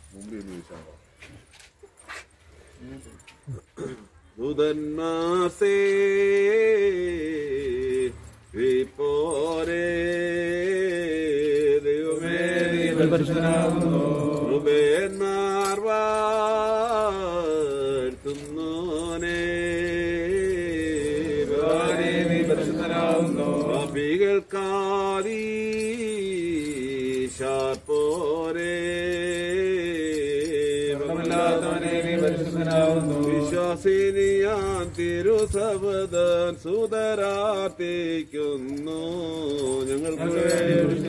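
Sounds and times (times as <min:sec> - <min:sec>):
man chanting a prayer: 0:04.4 - 0:41.0.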